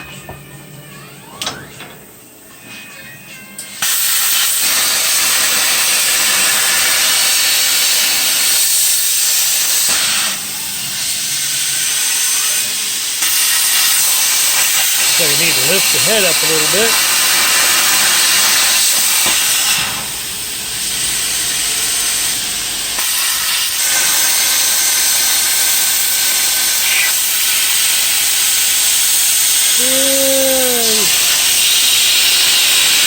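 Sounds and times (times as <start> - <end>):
plasma cutter hissing: 3.7 - 33.0.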